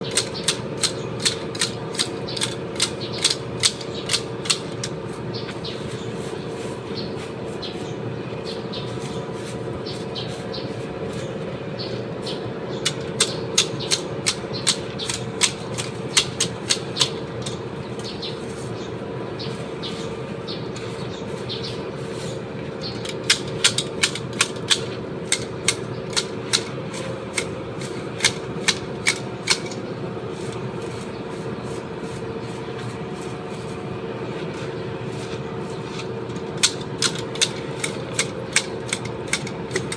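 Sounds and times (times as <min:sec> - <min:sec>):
garden shears snipping stems: 0:00.0 - 0:07.8, 0:12.8 - 0:18.7, 0:20.7 - 0:39.9
steady mechanical hum: 0:00.0 - 0:39.9.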